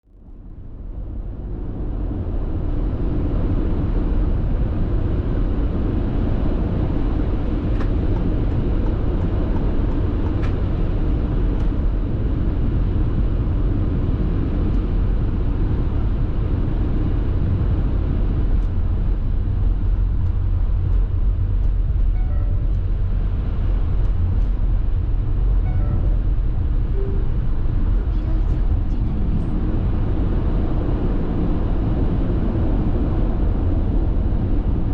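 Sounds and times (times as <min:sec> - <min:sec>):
road and tyre noise: 0:00.1 - 0:34.9.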